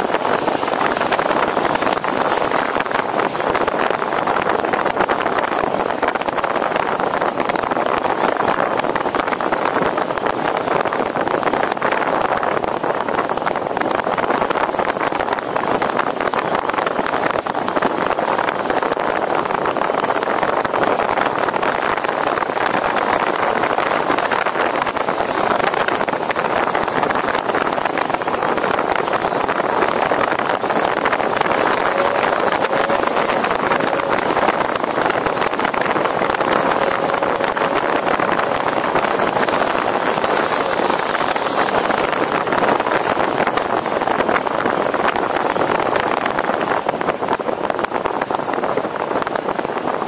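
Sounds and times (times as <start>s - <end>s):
road and tyre noise: 0.0s - 50.0s
wind rushing over microphone: 0.0s - 50.0s.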